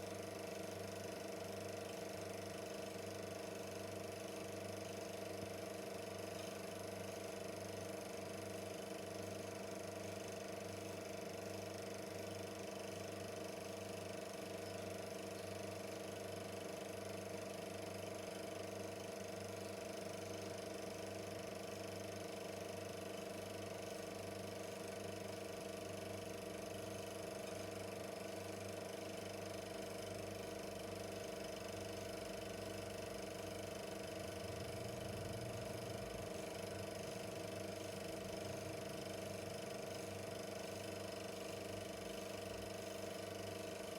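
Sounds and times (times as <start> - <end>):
film projector running: 0.0 - 43.9.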